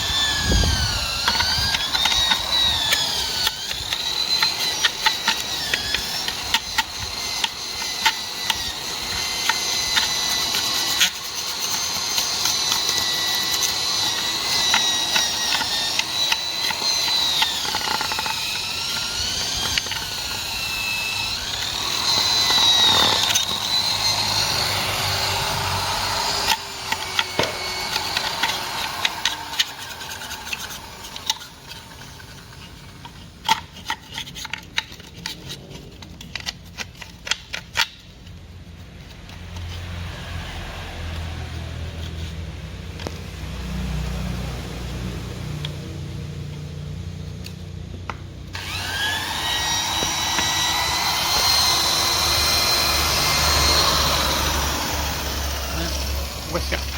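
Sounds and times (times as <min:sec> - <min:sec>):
electric drill motor whine: 0:00.0 - 0:38.1, 0:43.0 - 0:56.9.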